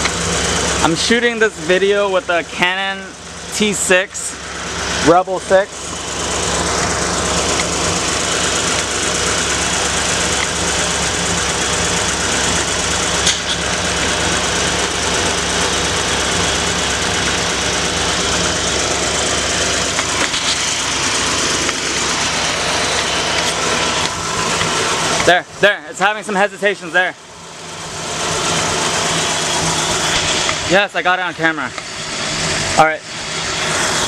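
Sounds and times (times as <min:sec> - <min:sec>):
engine idling unevenly: 0:00.0 - 0:34.0.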